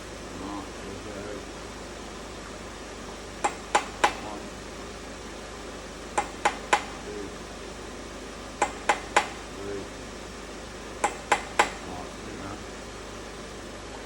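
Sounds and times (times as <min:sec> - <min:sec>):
workshop hiss: 0:00.0 - 0:14.0.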